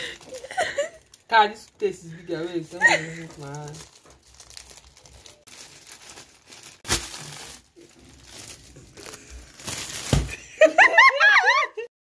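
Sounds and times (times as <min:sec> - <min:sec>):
plastic bread bag crinkling: 0:00.0 - 0:10.7.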